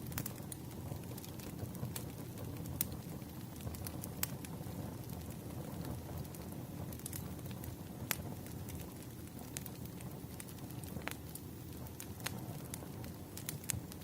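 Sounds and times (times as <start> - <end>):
fire crackling and popping: 0.0 - 14.0
wood fire flames rumbling: 0.0 - 14.0.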